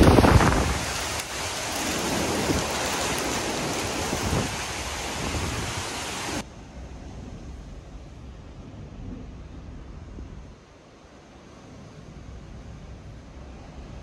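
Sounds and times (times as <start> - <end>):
driving rain: 0.0 - 14.0
strong wind: 0.0 - 14.0.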